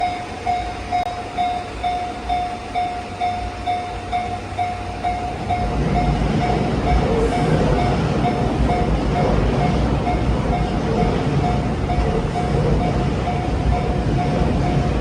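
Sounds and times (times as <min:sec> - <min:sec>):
level crossing warning bell: 0:00.0 - 0:15.0
low rumble of train: 0:00.0 - 0:15.0.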